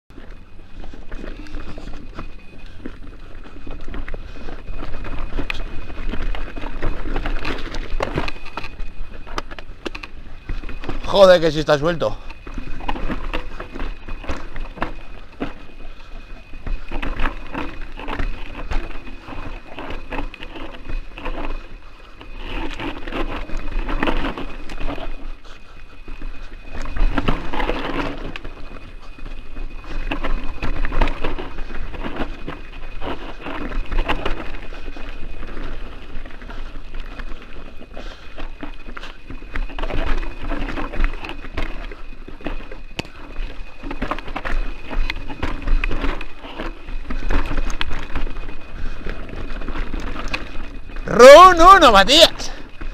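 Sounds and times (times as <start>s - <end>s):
bike frame rattling: 0.1s - 52.9s
bike tyres crunching over stones: 0.1s - 52.9s.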